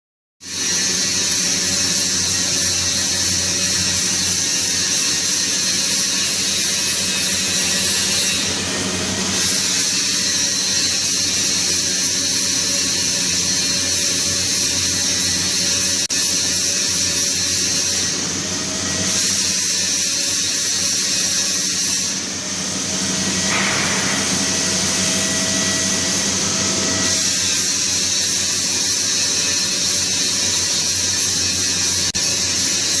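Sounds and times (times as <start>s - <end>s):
welding arc buzzing and hissing: 0.4s - 33.0s.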